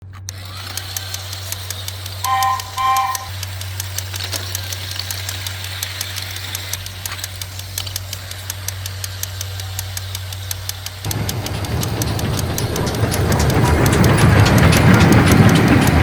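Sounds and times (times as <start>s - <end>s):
toy train motor humming: 0.0s - 16.0s
regular clicking: 0.2s - 16.0s.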